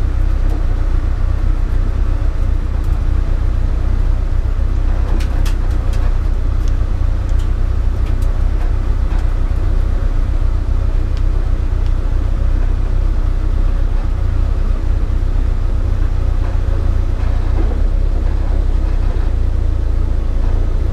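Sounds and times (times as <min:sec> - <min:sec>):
car engine rumble: 0:00.0 - 0:20.9
road noise: 0:00.0 - 0:20.9.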